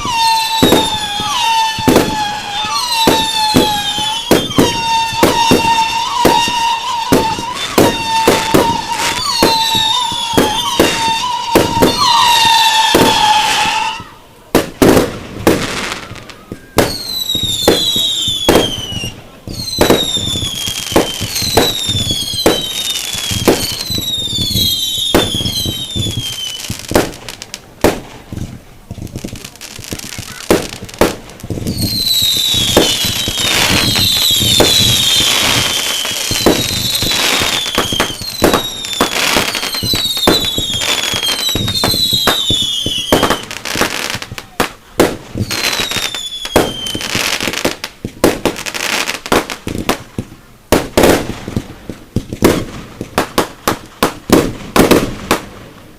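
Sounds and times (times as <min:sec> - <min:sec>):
whistling firework shells: 0:00.0 - 0:28.4, 0:29.3 - 0:50.0
fireworks bangs: 0:00.0 - 0:55.9.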